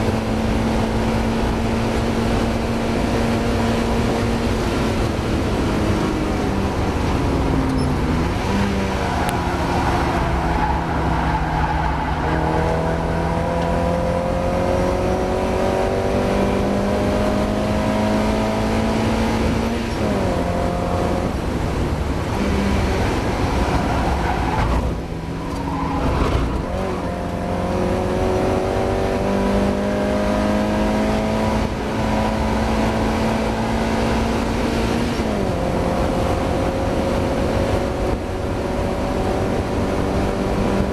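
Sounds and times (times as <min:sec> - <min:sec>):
car engine racing with misfire: 0:00.0 - 0:40.9.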